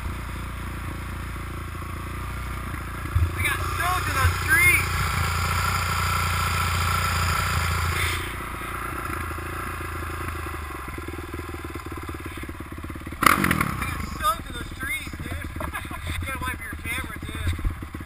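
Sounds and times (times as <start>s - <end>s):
dirt bike engine idling: 0.0s - 18.0s
dirt bike engine running: 0.0s - 18.0s.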